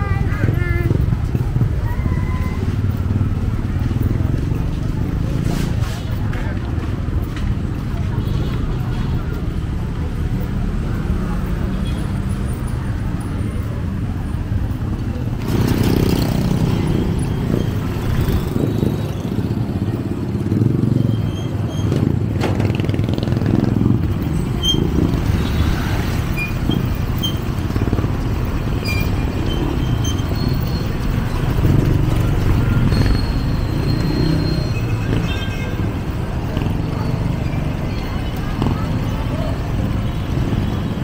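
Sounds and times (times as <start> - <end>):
vehicle engines rumbling: 0.0 - 41.0.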